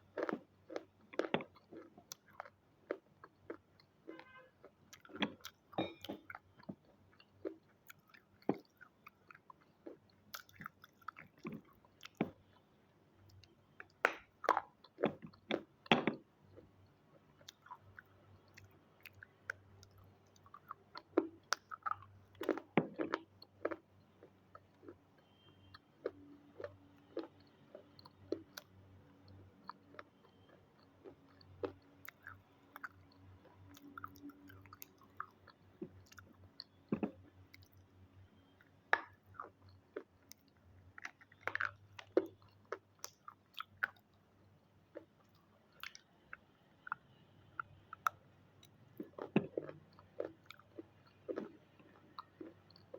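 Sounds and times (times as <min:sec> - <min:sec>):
crunchy food chewing: 0:00.0 - 0:44.2, 0:44.9 - 0:52.9.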